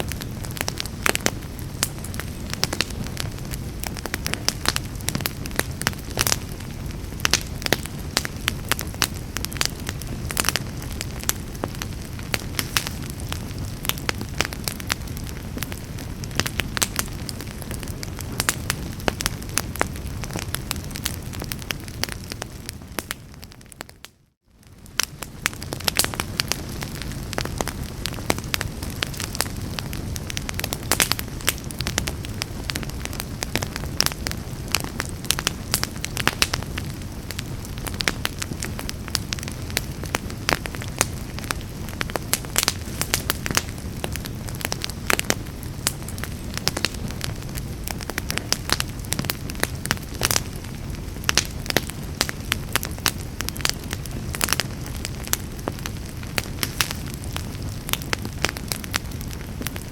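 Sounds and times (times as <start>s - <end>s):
fire crackling and popping: 0.0s - 59.9s
flames rumbling: 0.0s - 59.9s.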